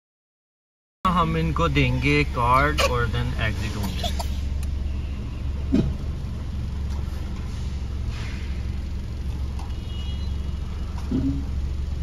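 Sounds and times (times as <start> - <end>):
car engine idling: 1.1 - 12.0.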